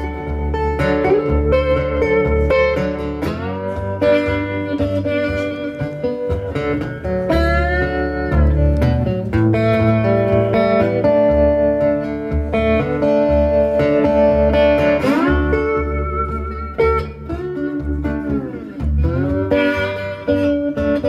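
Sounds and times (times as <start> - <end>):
fingerstyle acoustic guitar blues: 0.0 - 21.0.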